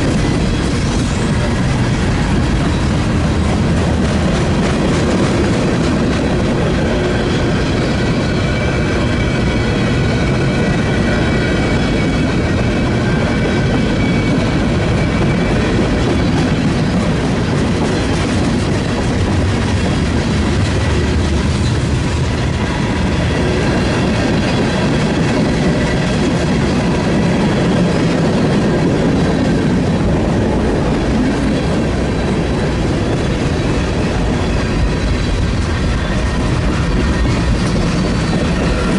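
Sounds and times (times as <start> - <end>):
train clattering over rails: 0.0 - 38.9.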